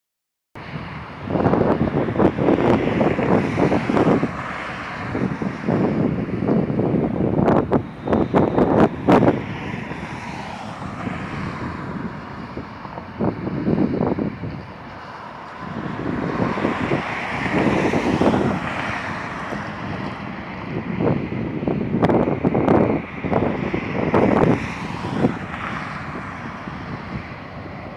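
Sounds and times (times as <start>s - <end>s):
wind buffeting microphone: 0.6s - 27.9s.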